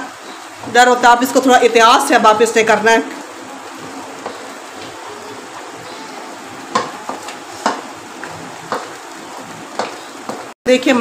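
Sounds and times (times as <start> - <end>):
sizzling hiss: 0.0 - 10.5.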